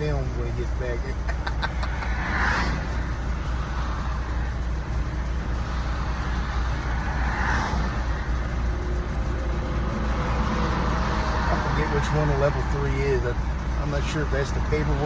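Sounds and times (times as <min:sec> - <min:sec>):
highway traffic rushing past: 0:00.0 - 0:15.0
truck engine idling: 0:00.0 - 0:15.0.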